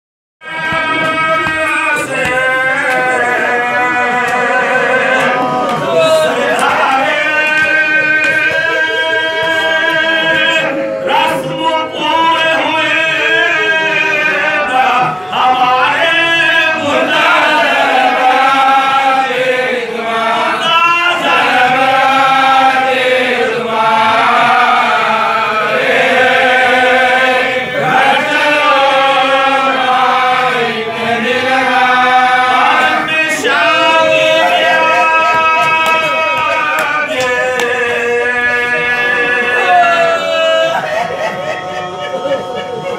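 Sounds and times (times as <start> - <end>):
men chanting an elegy: 0.4 - 42.9.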